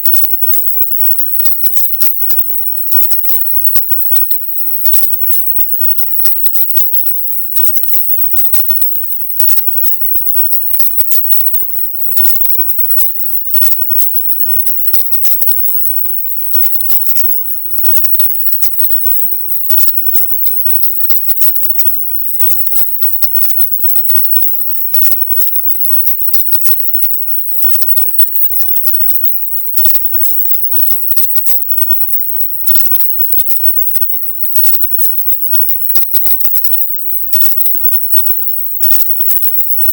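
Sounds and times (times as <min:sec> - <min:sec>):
crackly flickers: 0:00.0 - 0:39.9
high-pitched stuttering hiss: 0:00.0 - 0:39.9.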